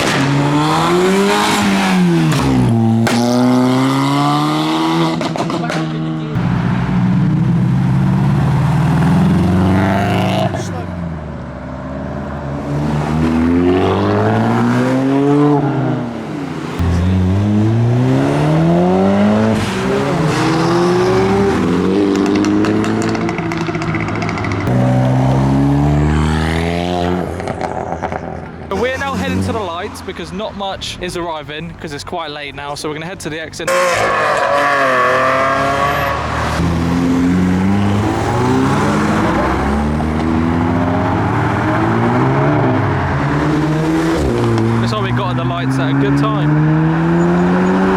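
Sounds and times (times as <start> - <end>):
car engines accelerating: 0.0 - 47.9.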